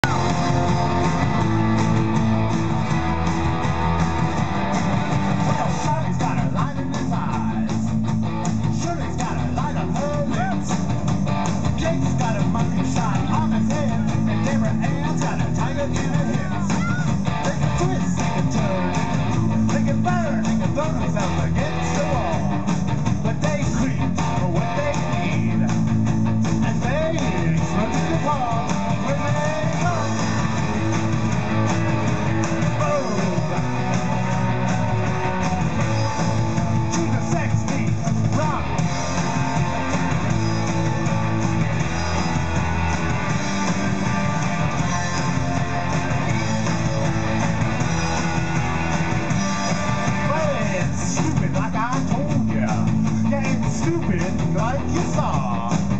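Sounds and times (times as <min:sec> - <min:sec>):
bass guitar: 0:00.0 - 0:55.9
electric guitars: 0:00.0 - 0:55.9
live rock band playing: 0:00.0 - 0:55.9.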